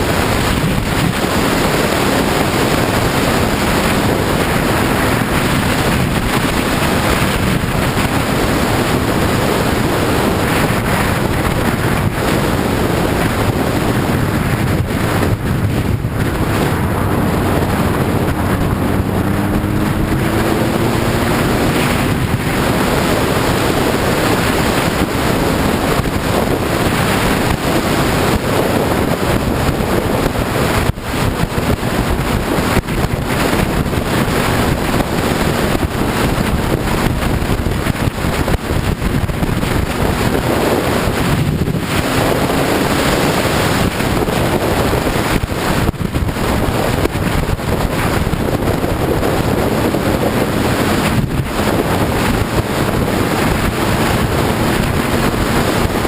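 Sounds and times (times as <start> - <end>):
motorcycle engine: 0.0 - 56.0
wind noise on microphone: 0.0 - 56.0.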